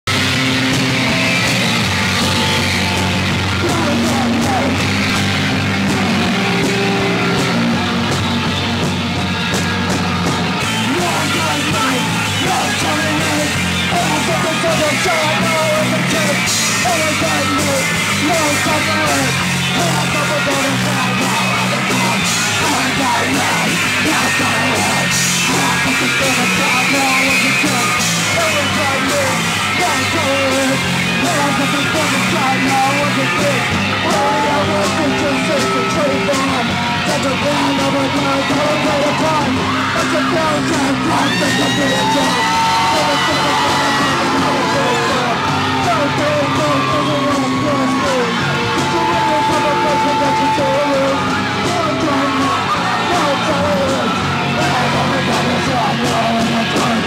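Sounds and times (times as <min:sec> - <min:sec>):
driving drums: 0:00.0 - 0:57.0
punk rock band playing live: 0:00.1 - 0:57.0
singer yelling into a microphone: 0:00.9 - 0:07.6, 0:10.6 - 0:57.0.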